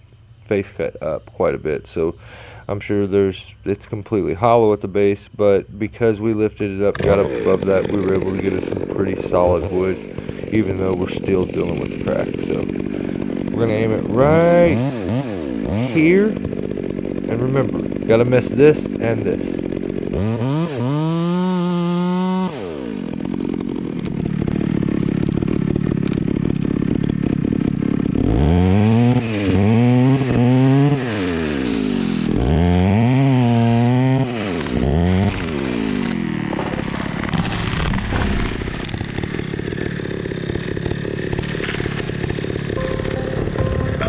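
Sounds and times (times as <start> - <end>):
chainsaw cutting into trunk: 6.8 - 44.0.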